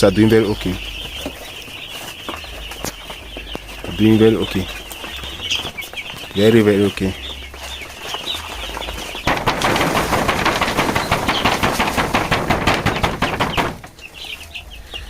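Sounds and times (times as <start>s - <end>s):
chicks peeping: 0.0s - 15.0s
chicks scrambling and flapping: 0.0s - 15.0s.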